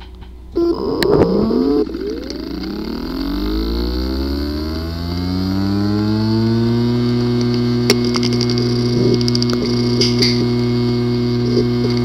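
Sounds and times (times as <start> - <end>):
hard drive spinning up whine: 0.4 - 12.0.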